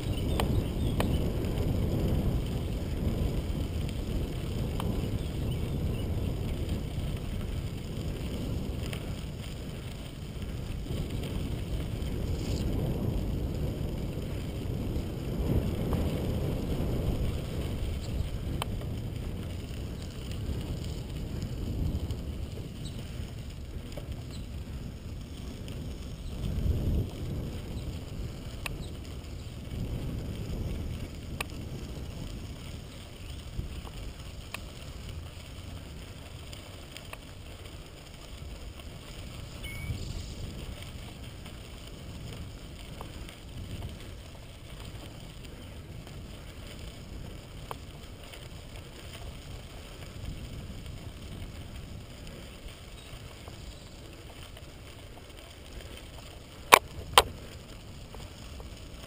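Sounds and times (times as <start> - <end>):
tyres rolling on gravel: 0.0 - 59.0
wind: 0.0 - 59.0
faint ticks: 0.1 - 5.6, 6.5 - 16.2, 17.6 - 59.0.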